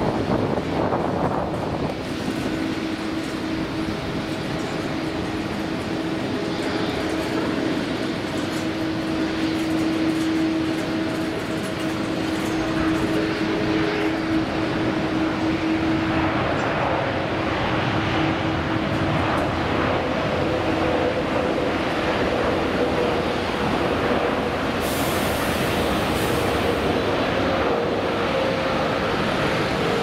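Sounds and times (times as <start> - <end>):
jet engine and airflow rush: 0.0 - 30.0.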